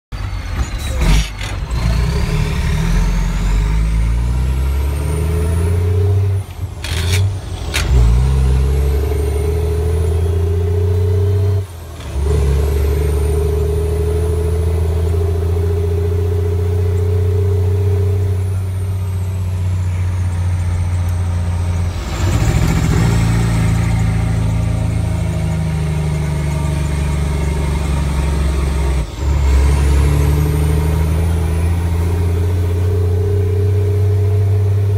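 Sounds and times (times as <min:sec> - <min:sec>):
truck diesel engine through gears: 0:00.1 - 0:34.9.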